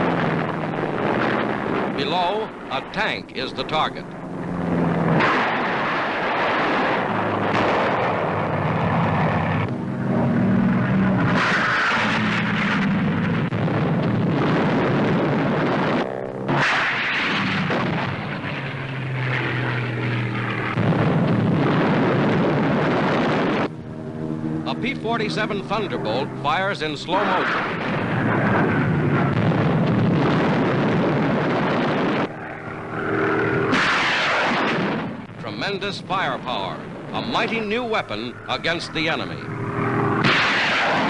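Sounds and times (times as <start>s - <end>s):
rockets firing and exploding: 0.0s - 23.9s, 24.6s - 41.0s
propeller aircraft engines roaring: 0.0s - 41.0s.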